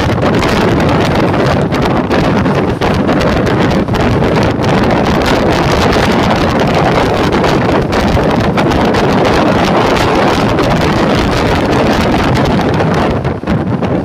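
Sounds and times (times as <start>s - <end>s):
train rattle: 0.0s - 14.0s
train running noise: 0.0s - 14.0s
wind buffeting microphone: 0.0s - 14.0s.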